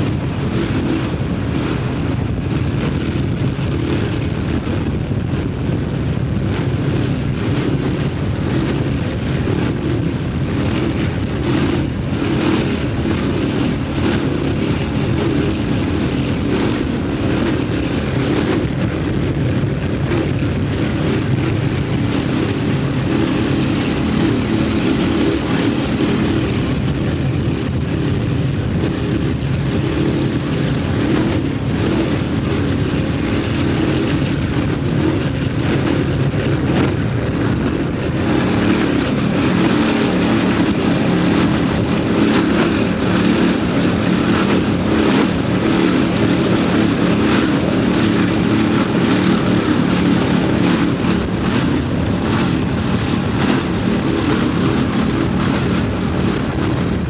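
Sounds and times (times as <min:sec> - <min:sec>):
loud engine drone: 0:00.0 - 0:57.0
rushing wind: 0:00.0 - 0:57.0.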